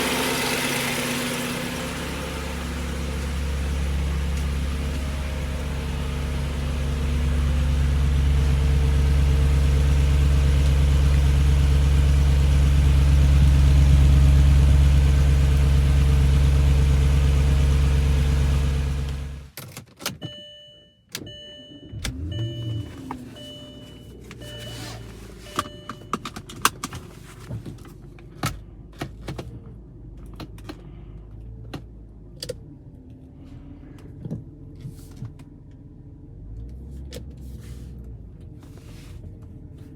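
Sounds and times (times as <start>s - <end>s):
car engine running: 0.0s - 19.5s, 21.8s - 34.3s.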